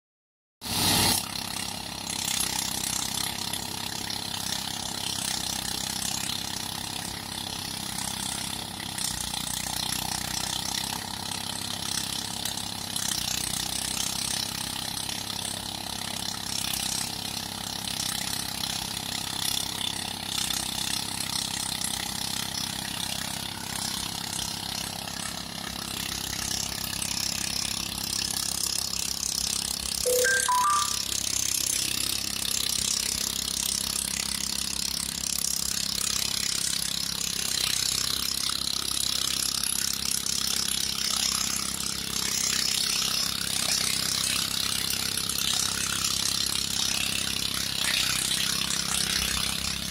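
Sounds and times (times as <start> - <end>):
engine drone: 0.7 - 49.9.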